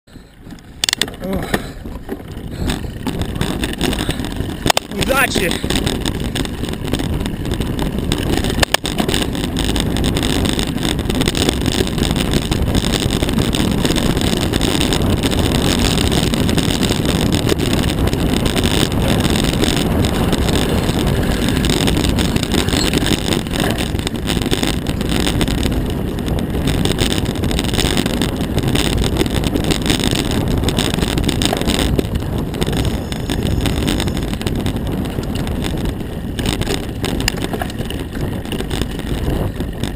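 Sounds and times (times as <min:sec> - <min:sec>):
tyre noise on dirt: 0:00.1 - 0:39.9
wind buffeting microphone: 0:00.1 - 0:39.9.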